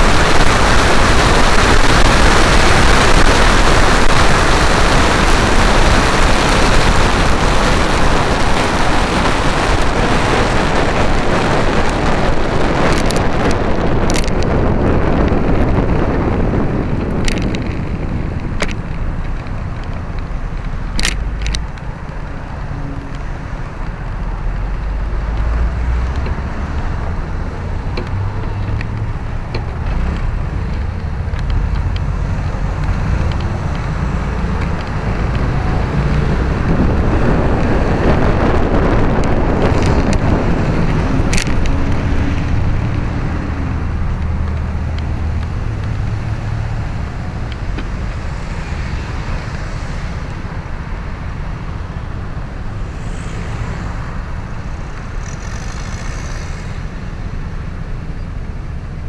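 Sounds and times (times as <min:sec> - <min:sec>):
road traffic: 0:00.0 - 0:59.0
wind noise on microphone: 0:00.0 - 0:59.0.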